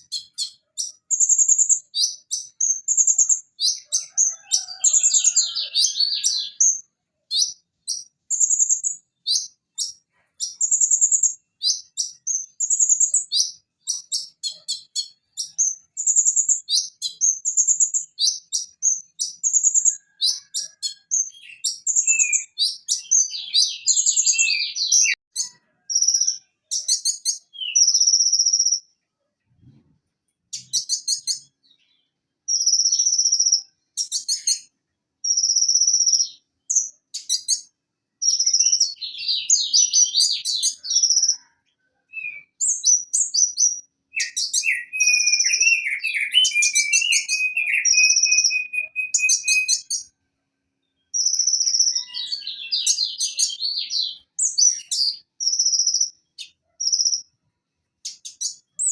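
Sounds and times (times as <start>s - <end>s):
sunbird chirping and trilling: 0.0s - 29.0s, 30.5s - 41.5s, 42.1s - 50.1s, 50.8s - 57.4s, 58.0s - 58.9s.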